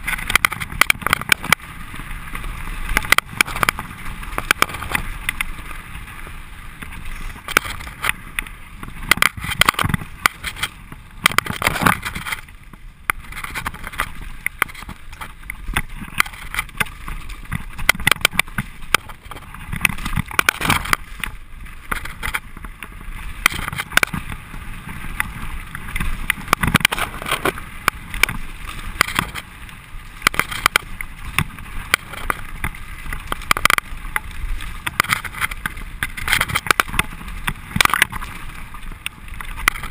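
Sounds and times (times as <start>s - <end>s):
bike frame rattling: 0.0s - 39.9s
continuous rushing noise: 0.0s - 39.9s
tyres crunching over loose ground: 0.0s - 39.9s.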